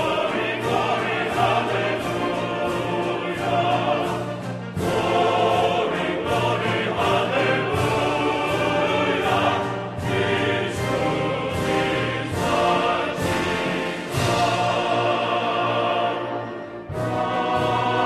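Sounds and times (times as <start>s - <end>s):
background music with layered chords: 0.0s - 18.0s.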